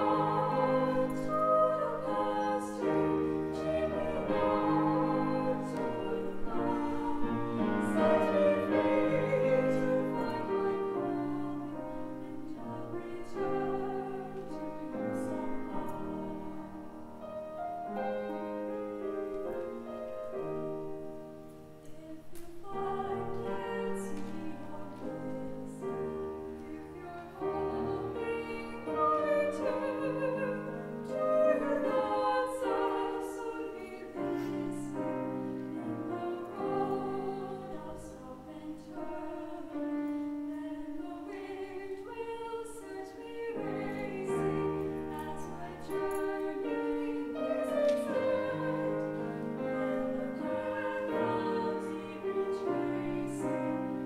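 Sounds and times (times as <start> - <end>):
women singing operatic duet: 0.0 - 17.2, 21.6 - 54.0
grand piano: 0.0 - 54.0.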